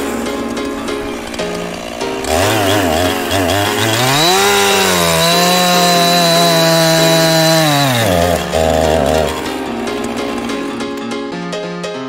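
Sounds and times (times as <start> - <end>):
small petrol engine revving: 0.0 - 11.0.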